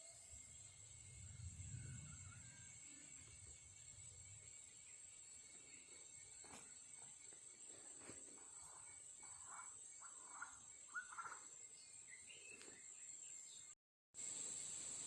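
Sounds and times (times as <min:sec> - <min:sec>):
soft bird chirps: 0:00.0 - 0:13.8
high-pitched insect drone: 0:00.0 - 0:15.0.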